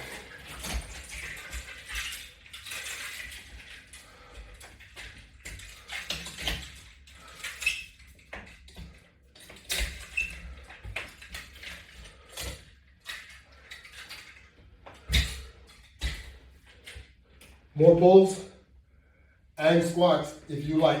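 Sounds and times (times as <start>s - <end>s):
exercise hardware rattling and creaking: 0.0s - 18.3s.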